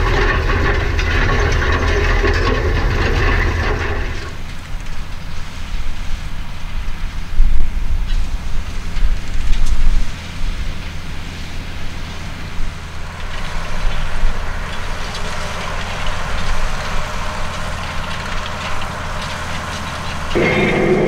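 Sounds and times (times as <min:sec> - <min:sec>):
tractor diesel engine drone: 0:00.0 - 0:21.0.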